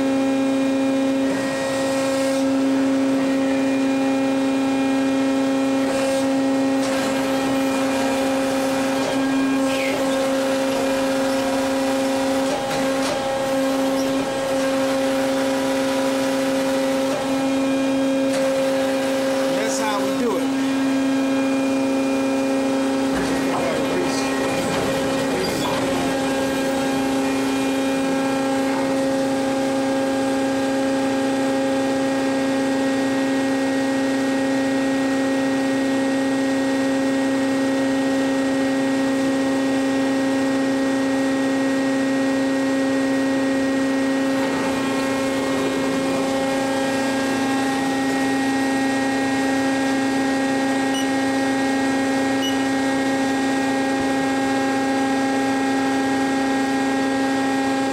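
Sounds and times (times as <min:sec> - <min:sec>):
electric machine drone: 0:00.0 - 0:57.9.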